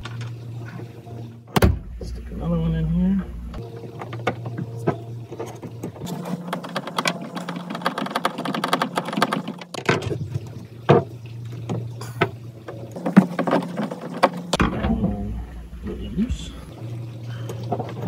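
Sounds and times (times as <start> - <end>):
steady low hum: 0.0 - 7.8, 10.1 - 18.0.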